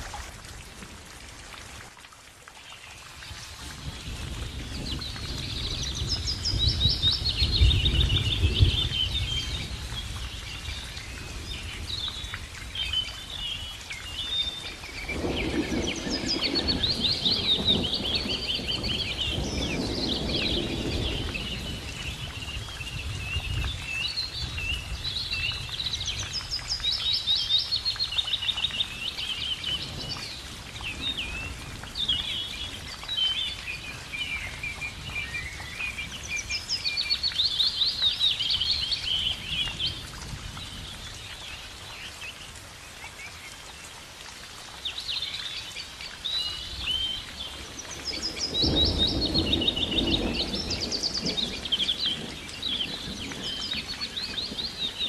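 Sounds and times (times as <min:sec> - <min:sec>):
songbirds chirping and trilling: 0:02.8 - 0:55.0.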